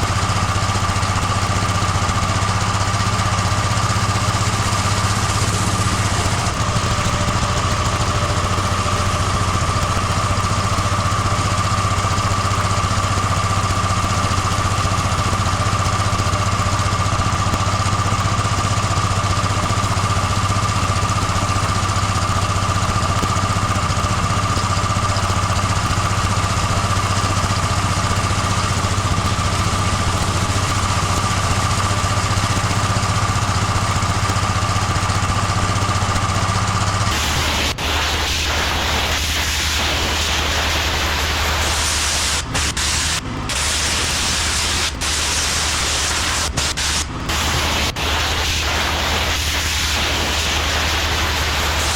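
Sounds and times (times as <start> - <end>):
pressure washer engine running: 0.0 - 51.9
water spray hissing on concrete: 0.0 - 51.9.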